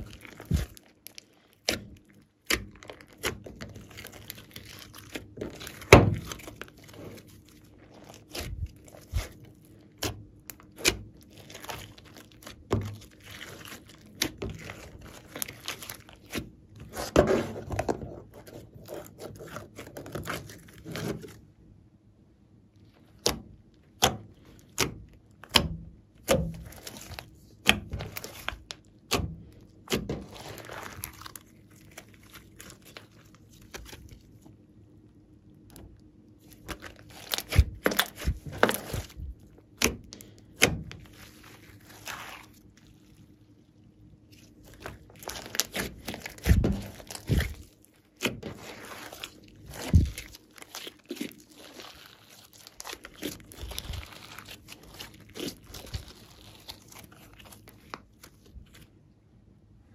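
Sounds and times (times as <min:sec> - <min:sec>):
slime squishing: 0:00.0 - 0:21.8, 0:22.5 - 0:59.2.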